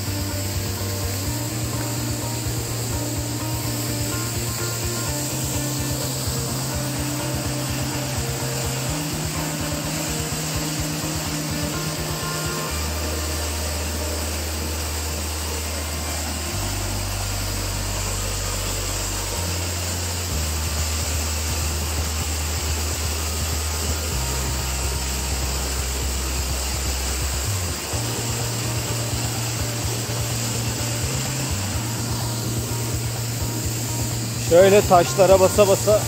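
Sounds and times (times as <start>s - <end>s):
low bass music: 0.0s - 36.0s
waterfall and stream rushing: 0.0s - 36.0s.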